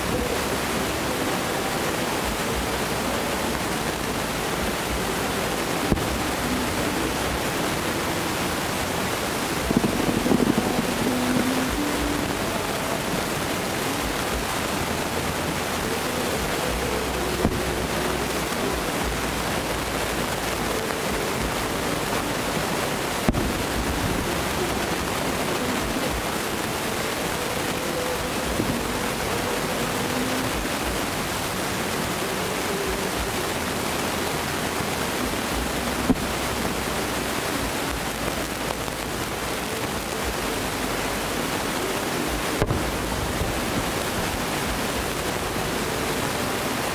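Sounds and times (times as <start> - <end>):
outdoor noise: 0.0 - 46.9.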